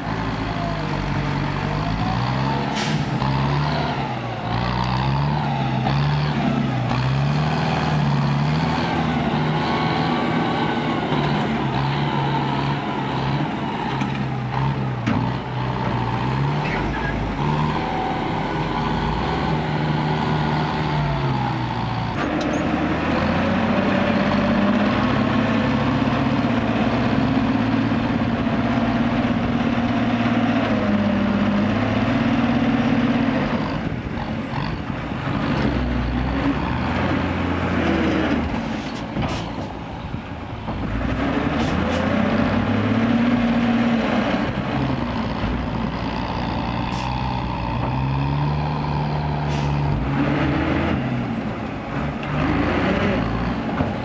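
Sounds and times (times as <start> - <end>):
truck diesel engine revving: 0.0 - 54.0.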